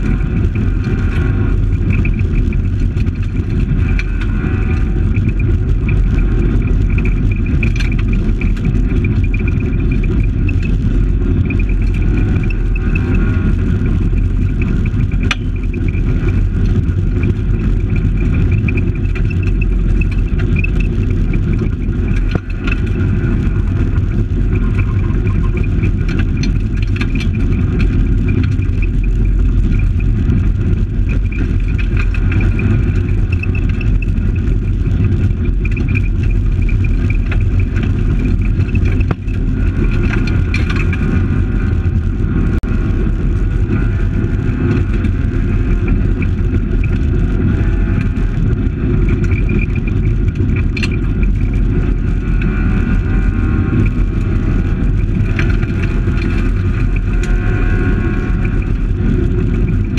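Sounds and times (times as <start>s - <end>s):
car engine running hard: 0.0s - 59.9s
gravel road rumble: 0.0s - 59.9s.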